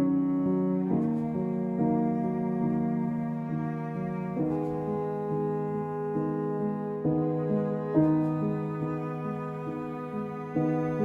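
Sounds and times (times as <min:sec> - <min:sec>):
slow orchestral music: 0:00.0 - 0:11.0.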